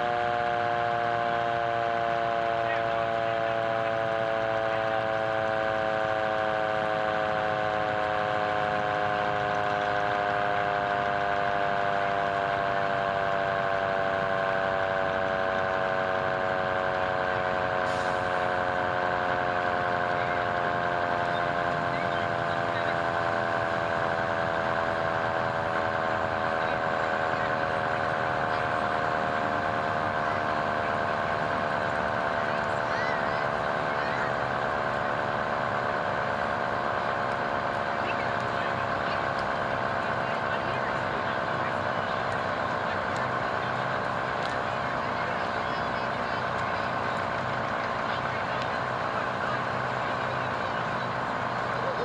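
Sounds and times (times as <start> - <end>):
fire truck siren wailing: 0.0 - 52.0.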